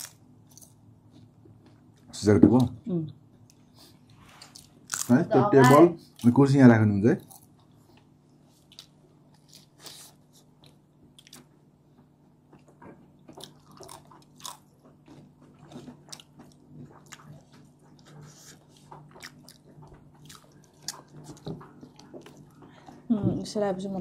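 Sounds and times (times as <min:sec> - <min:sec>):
people chewing fried chicken: 0:00.0 - 0:06.5, 0:07.1 - 0:23.2
steady low hum: 0:00.0 - 0:24.0.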